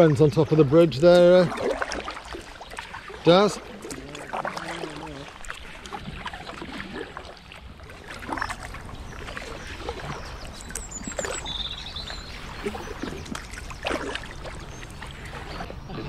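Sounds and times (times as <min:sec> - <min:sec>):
paddle splashing in water: 0:00.0 - 0:16.0.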